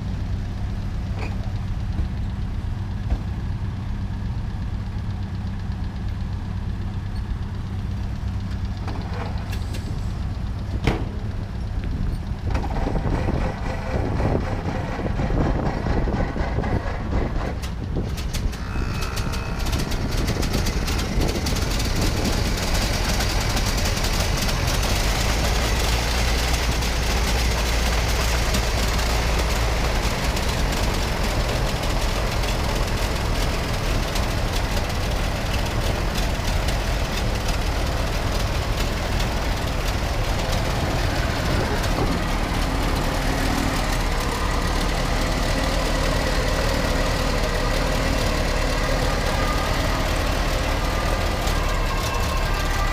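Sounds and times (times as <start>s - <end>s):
car engines rumbling: 0.0s - 52.9s.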